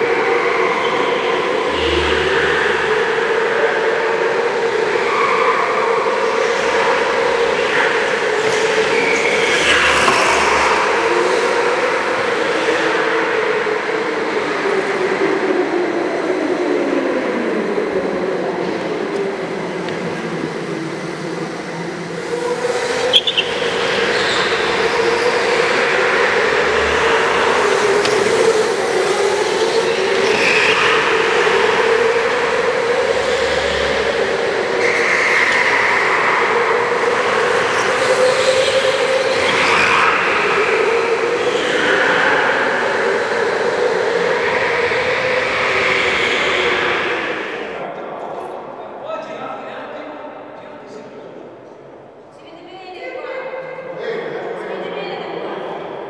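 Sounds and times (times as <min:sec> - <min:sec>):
go-kart engines running: 0:00.0 - 0:48.0.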